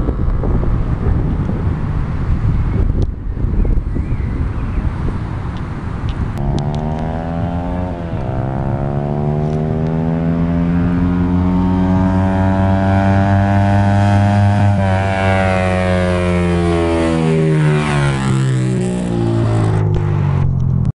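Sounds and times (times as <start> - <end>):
motorcycle engine running hard: 0.0 - 20.7.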